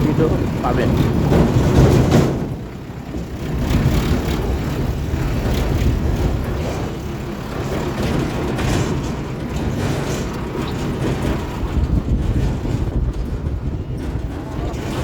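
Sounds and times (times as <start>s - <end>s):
tractor engine rumbling: 0.0s - 15.0s.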